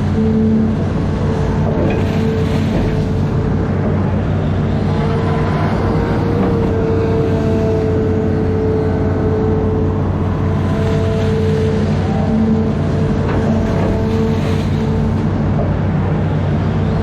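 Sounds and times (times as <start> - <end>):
excavator diesel engine running: 0.0 - 17.0
steady whine: 0.0 - 17.0.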